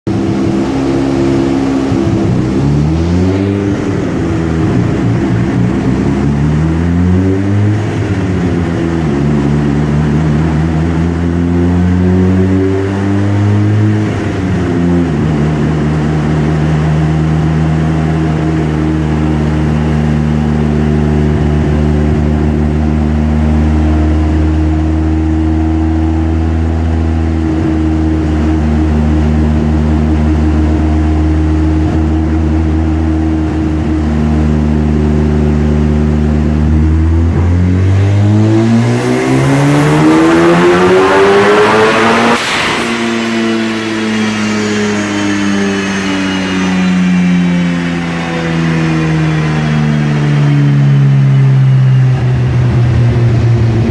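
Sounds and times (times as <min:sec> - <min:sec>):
rotary engine revving: 0:00.1 - 0:53.9.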